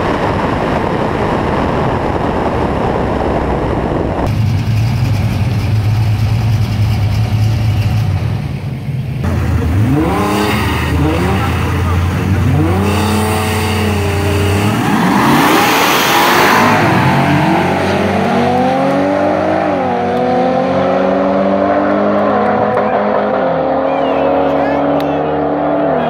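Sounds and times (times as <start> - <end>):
car engines revving and launching: 0.0 - 26.0.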